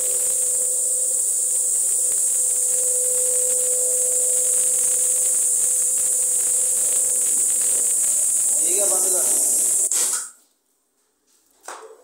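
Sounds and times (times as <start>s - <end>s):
floor scrubbing machine running: 0.0s - 10.3s.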